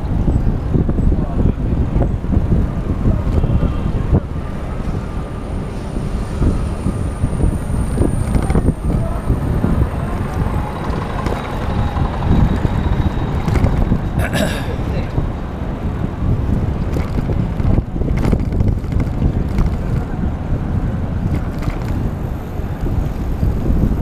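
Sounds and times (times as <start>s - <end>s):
passing cars and trucks: 0.0s - 24.0s
wind buffeting microphone: 0.0s - 24.0s.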